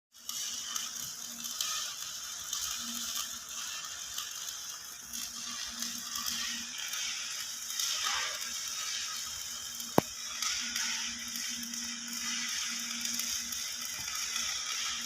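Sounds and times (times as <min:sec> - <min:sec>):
arc welding crackling hiss: 0:00.1 - 0:15.0.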